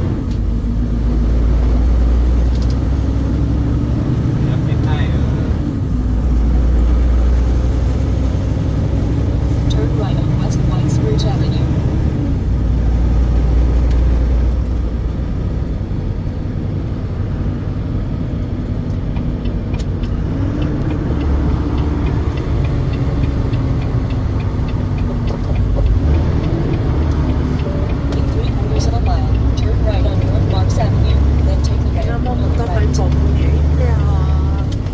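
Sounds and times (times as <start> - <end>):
truck engine and road noise: 0.0 - 34.9.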